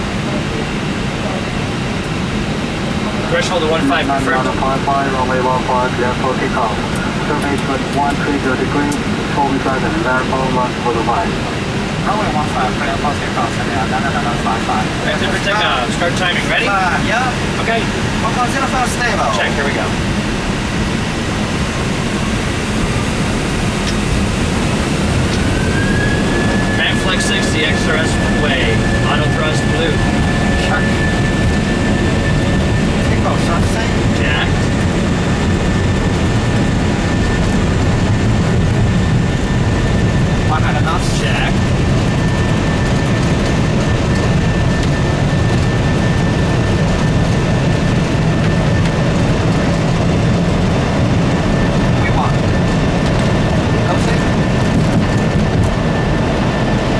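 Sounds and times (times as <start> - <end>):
jet engines spooling up: 0.1 - 56.9
faint whine: 2.7 - 56.9.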